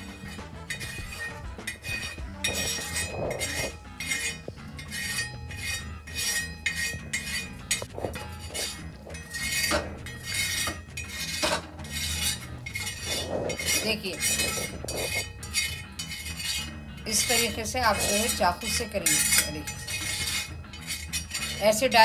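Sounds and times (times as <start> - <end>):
knife scraping metal pan: 0.0 - 22.0.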